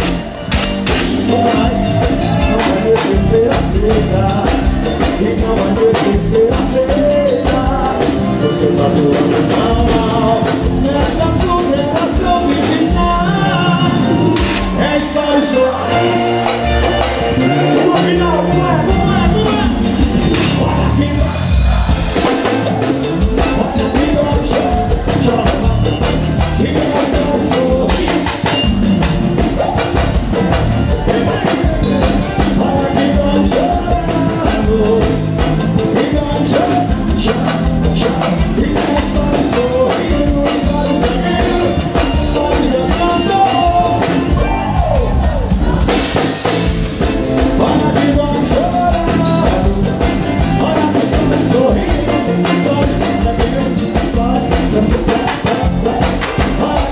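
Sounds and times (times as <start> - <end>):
accordion: 0.0 - 56.9
drum kit beat: 0.0 - 56.9
live band playing: 0.0 - 56.9
person singing: 0.0 - 56.9.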